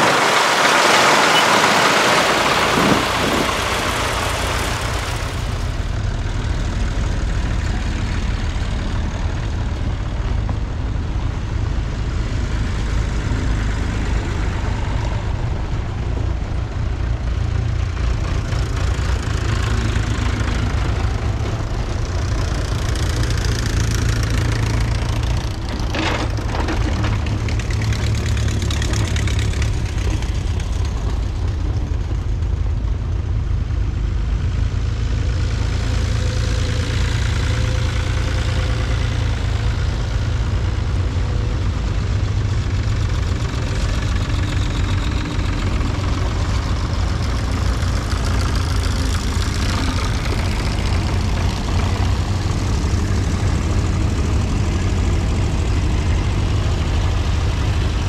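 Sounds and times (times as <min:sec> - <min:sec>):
tractor engines passing: 0:00.0 - 0:58.0.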